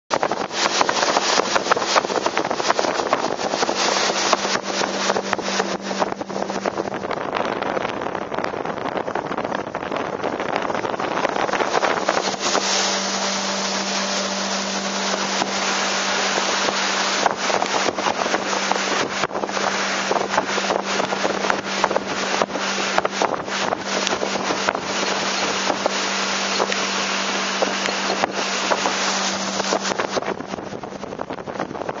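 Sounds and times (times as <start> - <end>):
boat motor humming: 0.0 - 32.0
wind buffeting microphone: 0.1 - 32.0.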